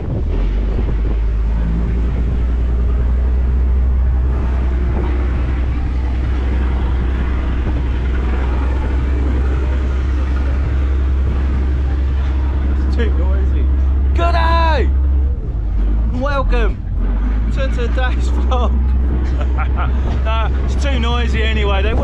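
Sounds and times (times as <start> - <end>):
wind on microphone: 0.0 - 14.2, 14.9 - 22.0
vehicle engine rumbling: 0.0 - 22.0.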